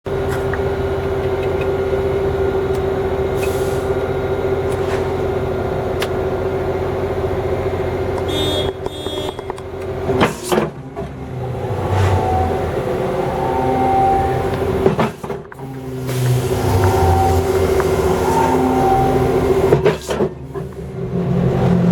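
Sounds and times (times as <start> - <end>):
diesel machinery whining: 0.1 - 21.9.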